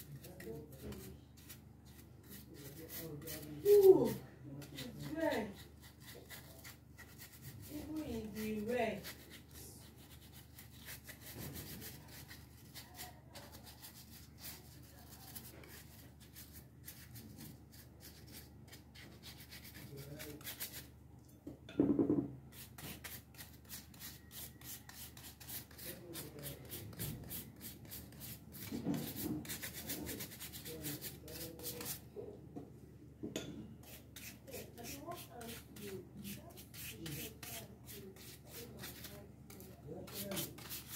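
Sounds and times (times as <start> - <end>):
paintbrush scratching on wood: 0.0 - 20.9, 22.5 - 32.1, 33.8 - 40.9.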